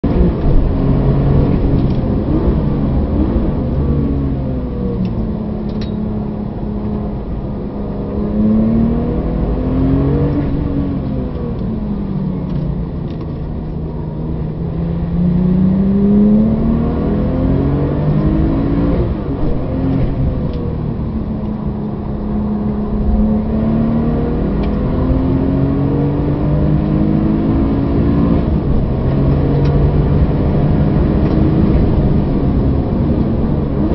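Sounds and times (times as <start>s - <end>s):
sports car engine accelerating: 0.0s - 33.9s.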